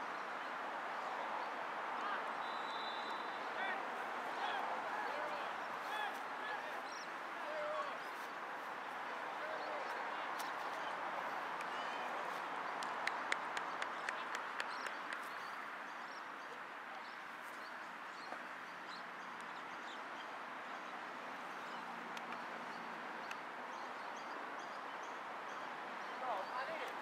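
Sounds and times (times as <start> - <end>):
small birds chirping: 4.4 - 27.0.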